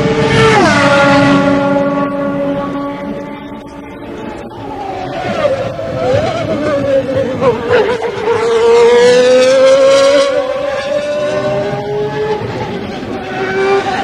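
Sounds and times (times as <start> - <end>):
racing car engine accelerating: 0.0 - 14.0.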